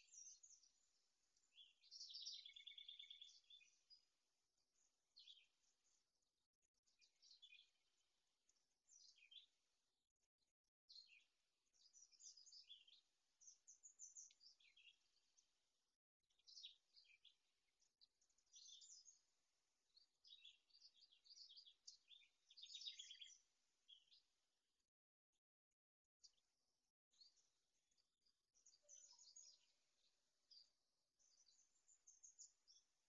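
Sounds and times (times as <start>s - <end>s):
faint songbirds chirping and trilling: 0.0s - 33.0s.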